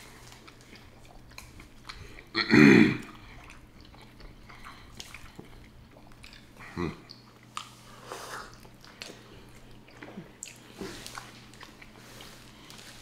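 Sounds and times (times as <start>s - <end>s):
wet chewing and biting: 0.0s - 2.3s, 3.0s - 7.8s, 8.4s - 13.0s.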